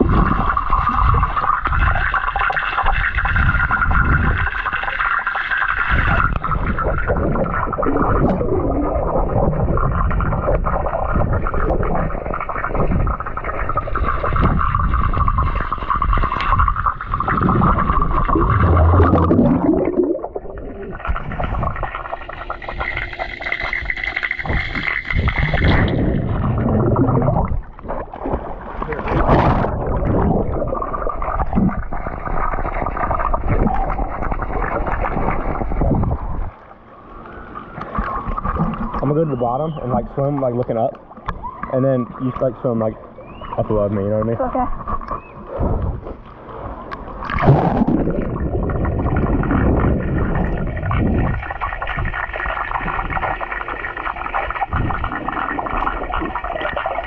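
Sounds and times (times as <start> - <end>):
gurgling bubbling water: 0.0 - 57.0
muffled underwater rumble and hum: 0.0 - 57.0.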